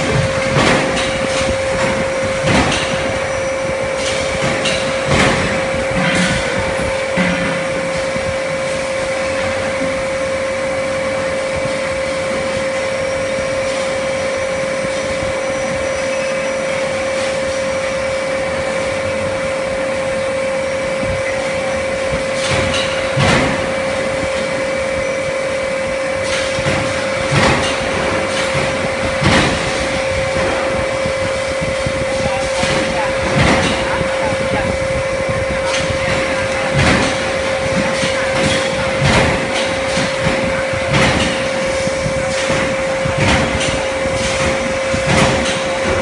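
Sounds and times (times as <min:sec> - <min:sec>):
induction brazing machine humming: 0:00.0 - 0:46.0.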